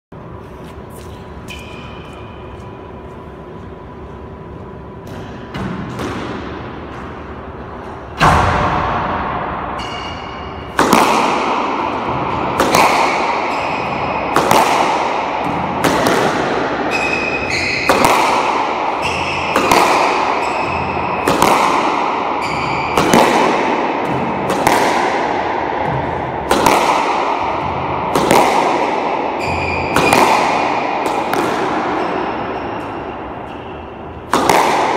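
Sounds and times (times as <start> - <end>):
squash ball hitting racket and wall: 5.0 - 34.9.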